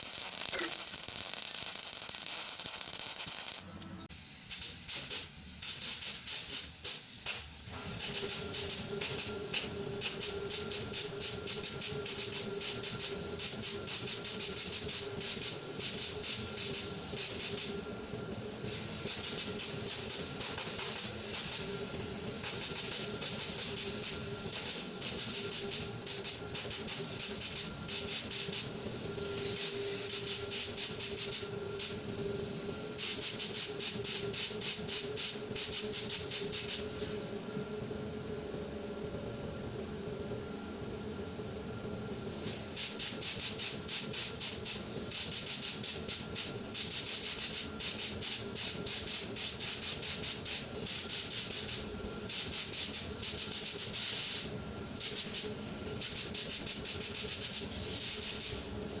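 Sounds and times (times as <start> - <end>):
sandblasting gun hissing pulses: 0.0 - 37.5, 40.4 - 59.0.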